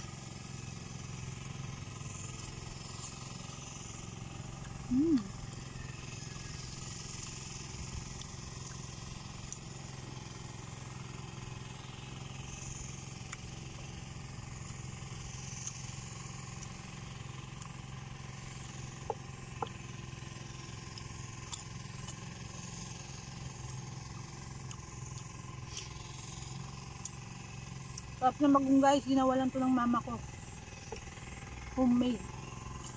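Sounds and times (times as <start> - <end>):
crunchy chewing: 0.0 - 11.0, 12.5 - 28.2, 30.3 - 32.9
steady low hum: 0.0 - 32.9.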